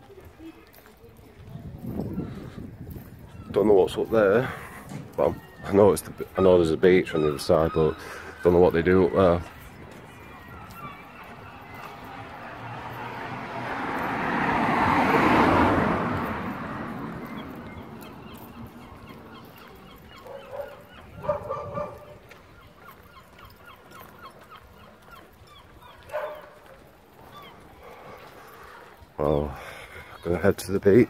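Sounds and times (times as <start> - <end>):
birds honking: 2.1 - 31.0.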